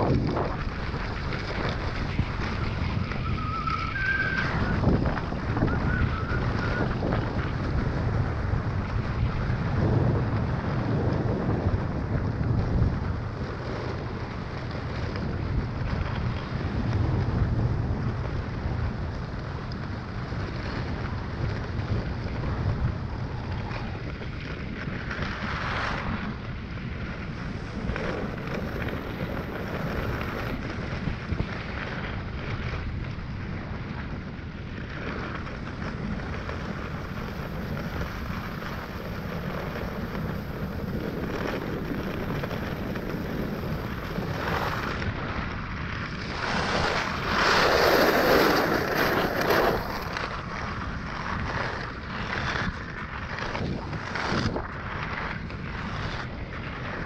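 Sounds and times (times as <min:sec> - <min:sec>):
skis scraping over snow: 0:00.0 - 0:57.0
wind rumbling on microphone: 0:00.0 - 0:57.0.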